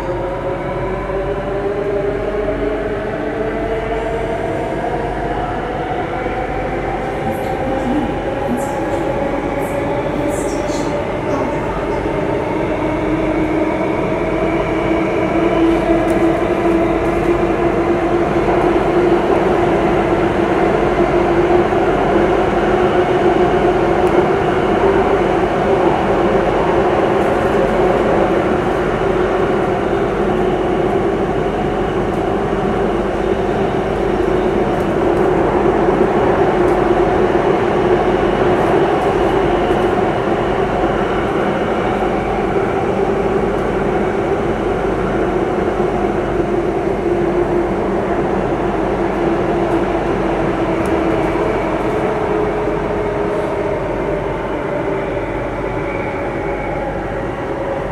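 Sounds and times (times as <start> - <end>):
train running in tunnel: 0.0 - 57.9.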